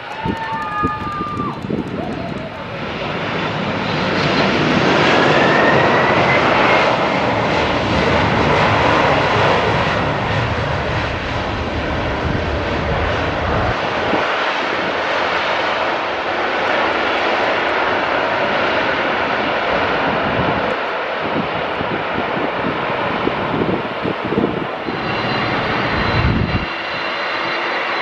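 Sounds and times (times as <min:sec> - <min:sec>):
jet engines running loud: 0:00.0 - 0:28.0.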